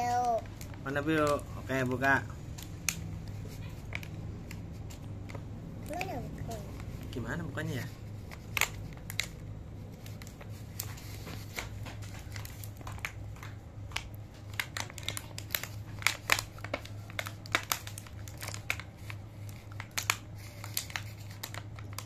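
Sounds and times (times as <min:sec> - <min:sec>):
steady low hum: 0:00.4 - 0:22.0.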